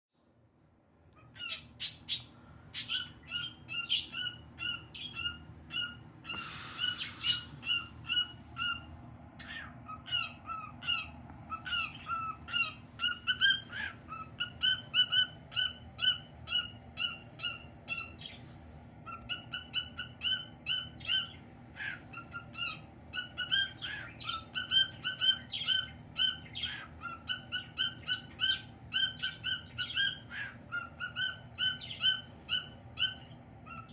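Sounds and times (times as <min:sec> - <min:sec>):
cockatiel chirping: 0:01.2 - 0:18.4, 0:19.0 - 0:33.9.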